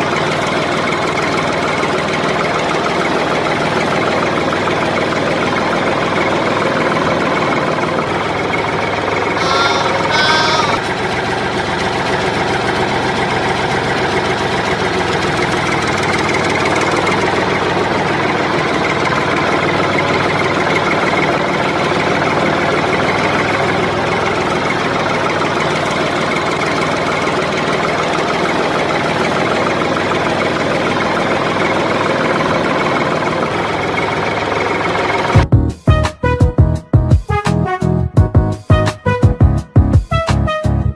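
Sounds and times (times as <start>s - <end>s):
tractor engine idling: 0.0s - 35.5s.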